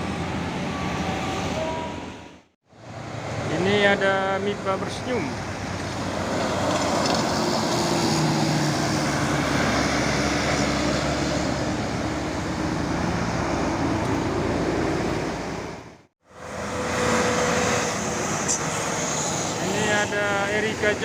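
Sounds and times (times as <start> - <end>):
bus engine working: 0.0 - 21.0
tyre and road noise: 0.0 - 21.0.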